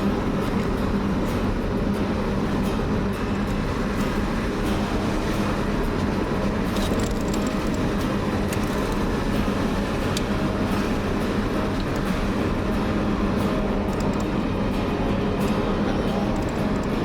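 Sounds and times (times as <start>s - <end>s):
low engine drone: 0.0s - 17.0s
tyre and road noise: 0.0s - 17.0s.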